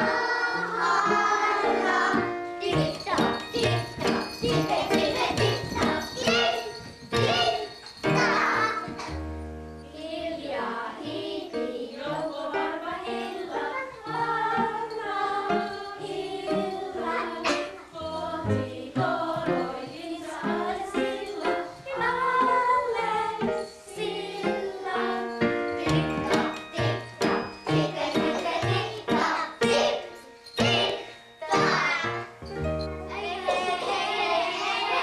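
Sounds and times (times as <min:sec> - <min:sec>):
voices singing together: 0:00.0 - 0:09.2, 0:09.9 - 0:32.4, 0:33.1 - 0:35.0.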